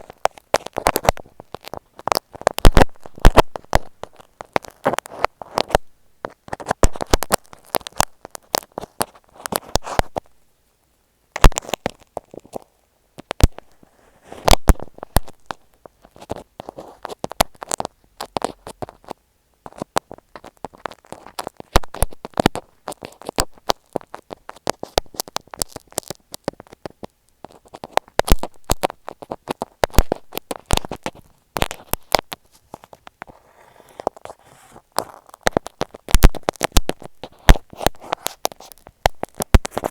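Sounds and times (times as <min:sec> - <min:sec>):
crackles and scratches on microphone: 0:00.0 - 0:39.9.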